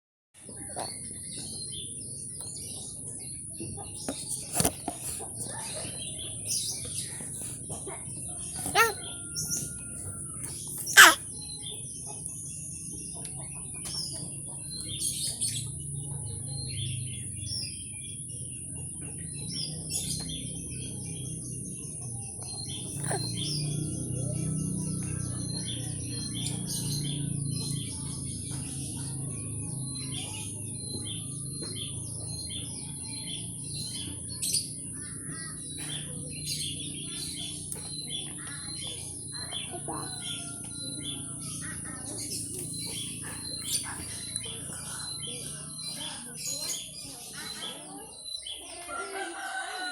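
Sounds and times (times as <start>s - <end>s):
birds chirping and singing: 0.8s - 49.7s.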